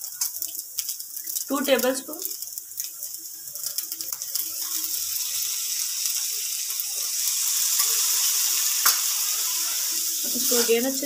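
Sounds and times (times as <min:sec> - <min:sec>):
rice sizzling in a frying pan: 0:00.0 - 0:11.0.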